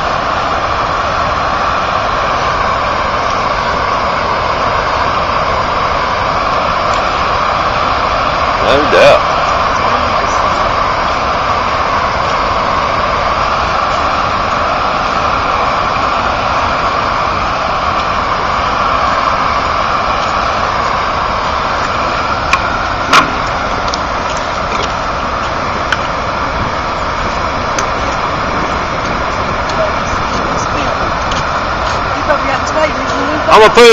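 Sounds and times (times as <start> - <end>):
water rushing over a dam: 0.0 - 33.9.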